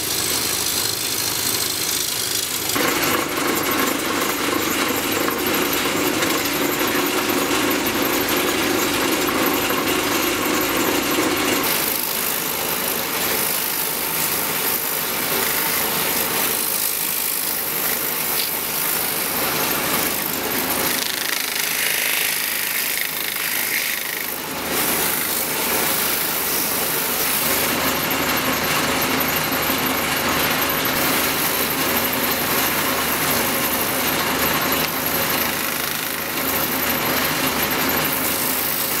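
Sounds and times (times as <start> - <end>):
wood lathe tool scraping: 0.0 - 39.0.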